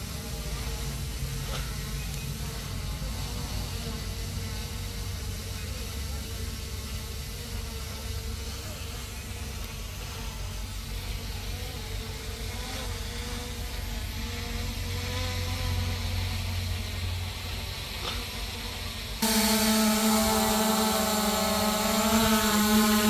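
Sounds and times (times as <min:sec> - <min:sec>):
drone propellers buzzing: 0:00.0 - 0:23.0.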